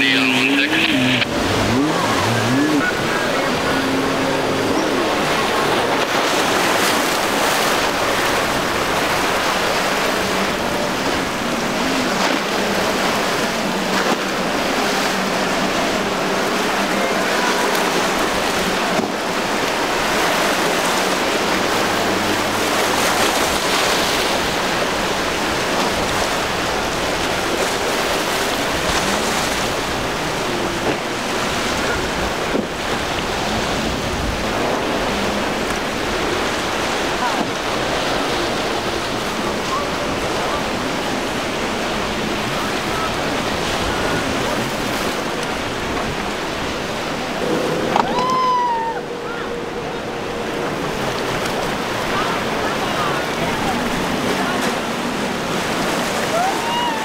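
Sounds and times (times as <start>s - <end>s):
surf breaking: 0.0s - 57.0s.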